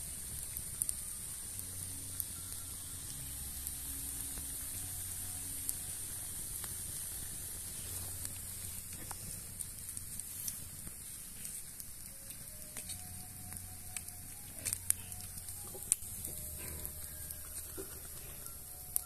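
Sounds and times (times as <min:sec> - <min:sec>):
wood fire hissing and crackling: 0:00.0 - 0:19.0.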